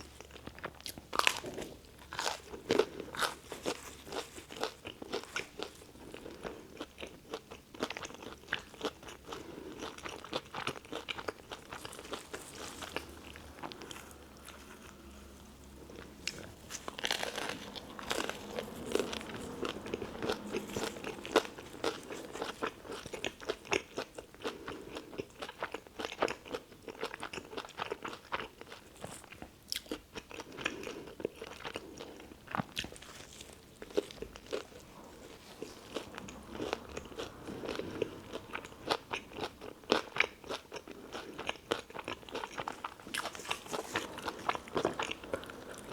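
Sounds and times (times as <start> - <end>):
crunching and chewing sandwich: 0.0 - 45.9.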